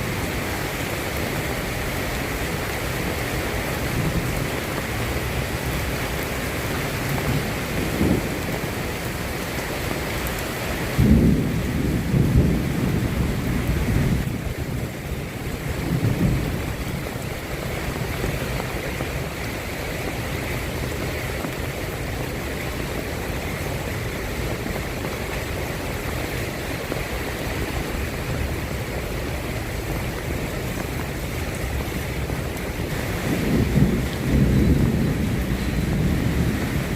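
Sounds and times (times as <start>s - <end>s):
distant thunder rumbling: 0.0s - 36.9s
steady rain falling: 0.0s - 36.9s.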